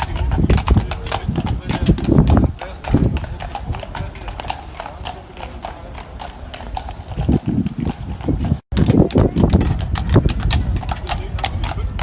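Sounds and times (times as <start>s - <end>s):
horse hooves clip-clopping: 0.0s - 12.0s.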